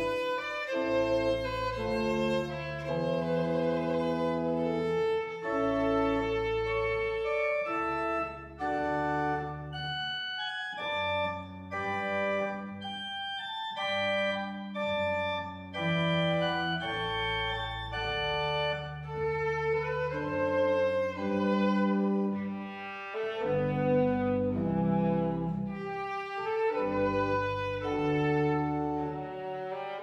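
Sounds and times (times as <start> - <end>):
pipe organ chords: 0.0 - 30.0.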